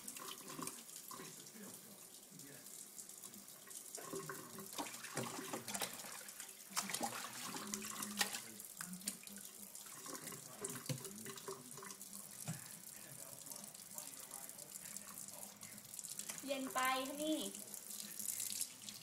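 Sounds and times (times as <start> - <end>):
faucet running into steel sink: 0.0 - 19.0
water splashes: 0.0 - 19.0.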